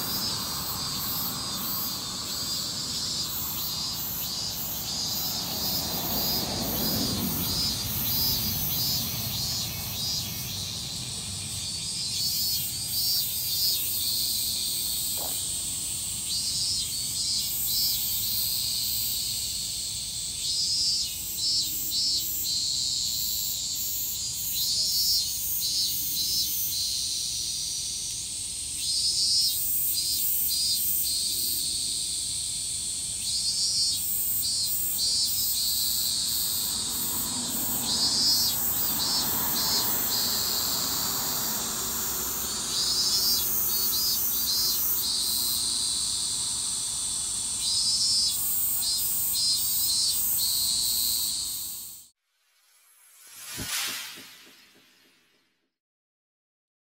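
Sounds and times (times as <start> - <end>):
cicadas calling: 0.0 - 52.1.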